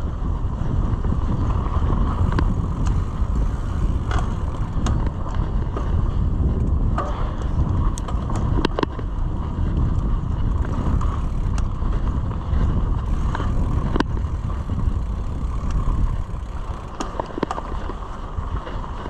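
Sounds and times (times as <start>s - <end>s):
bike clicks and rattles: 0.0s - 19.0s
tyres rumbling on dirt: 0.0s - 19.0s
wind on microphone: 0.0s - 19.0s.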